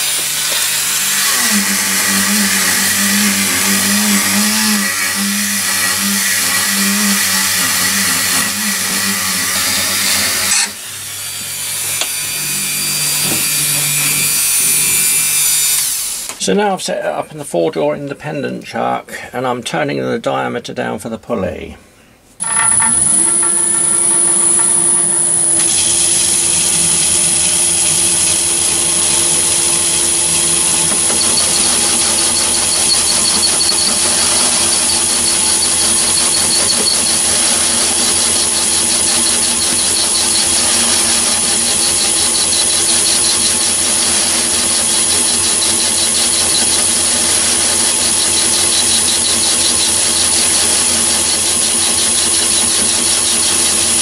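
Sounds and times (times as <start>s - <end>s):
lathe running with high whine: 0.0s - 16.3s, 22.4s - 54.0s.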